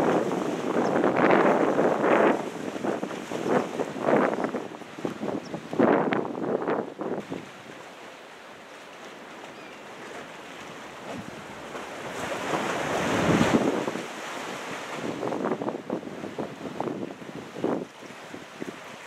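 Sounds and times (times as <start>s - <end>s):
wind gusting on microphone: 0.0s - 7.8s, 11.1s - 18.9s
ocean wave breaking: 0.0s - 19.0s.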